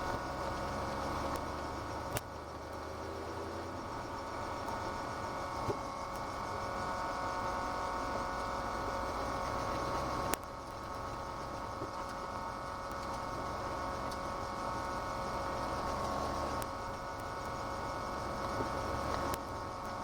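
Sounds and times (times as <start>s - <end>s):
engine running at cruising speed: 0.0s - 20.0s.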